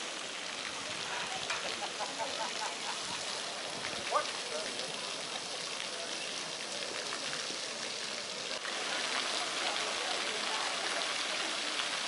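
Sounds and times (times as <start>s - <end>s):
fountain water splashing on paving: 0.0s - 12.0s.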